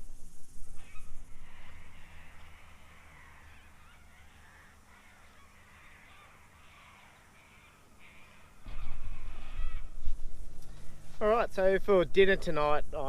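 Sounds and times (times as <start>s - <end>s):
riverside ambience: 0.0s - 13.0s
faint birds calling: 0.6s - 13.0s.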